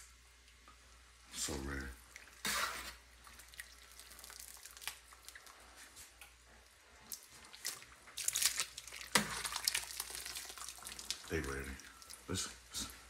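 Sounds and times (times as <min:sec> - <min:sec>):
liquid boiling in a pot: 0:00.0 - 0:13.0
wet squishes and dripping: 0:02.0 - 0:13.0.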